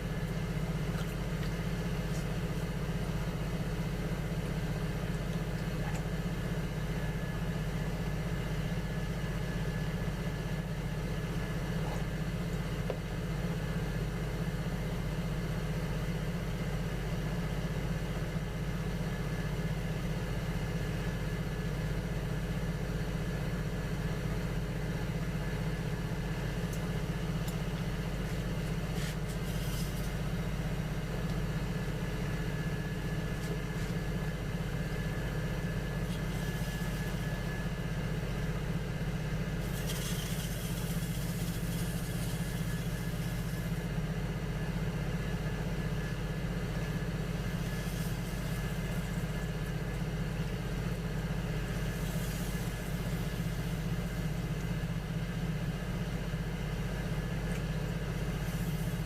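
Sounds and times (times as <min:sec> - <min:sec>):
potter's wheel motor humming: 0:00.0 - 0:59.0.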